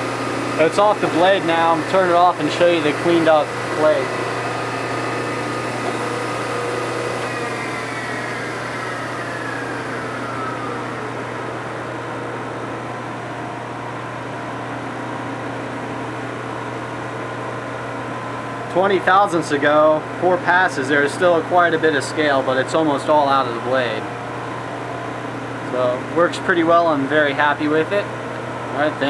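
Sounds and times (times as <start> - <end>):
grinder whine winding down: 0.0 - 17.6, 18.8 - 29.0
low machine hum: 0.0 - 29.0.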